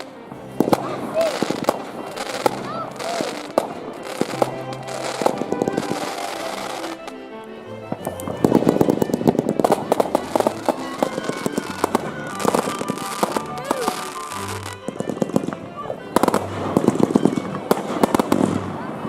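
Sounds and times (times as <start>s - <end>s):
fireworks banging and crackling: 0.0s - 7.1s, 8.0s - 19.0s
music playing: 0.0s - 19.0s.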